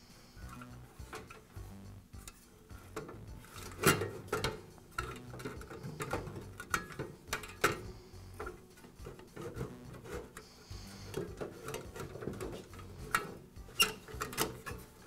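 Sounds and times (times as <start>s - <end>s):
plastic and metal parts knocking: 2.2s - 15.0s.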